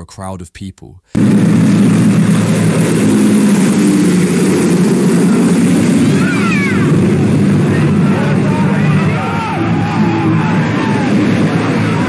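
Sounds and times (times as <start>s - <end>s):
propeller airplane engine passing overhead: 1.2s - 12.0s.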